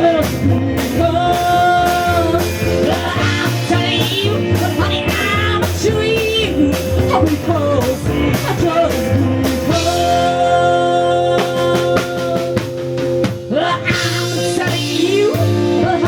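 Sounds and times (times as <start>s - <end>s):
rock and roll band music: 0.0s - 16.0s.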